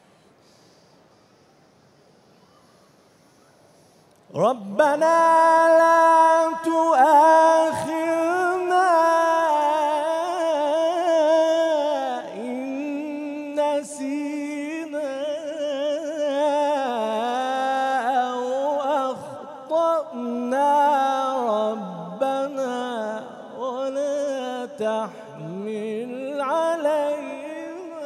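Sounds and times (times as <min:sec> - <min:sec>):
man chanting melodically: 0:04.3 - 0:28.0.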